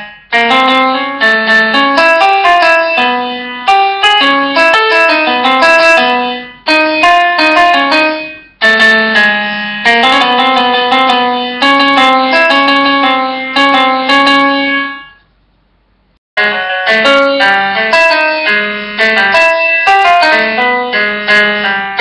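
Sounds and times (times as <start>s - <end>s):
piano-like keyboard music: 0.0s - 15.2s, 16.4s - 22.0s.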